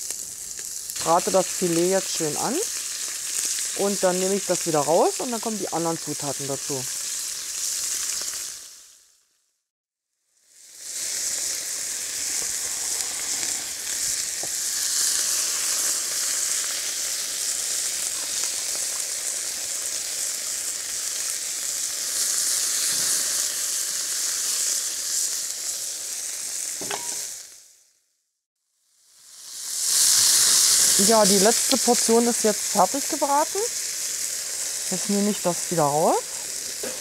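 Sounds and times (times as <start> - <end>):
meat sizzling in hot oil: 0.0 - 9.4, 10.3 - 28.0, 28.8 - 37.0.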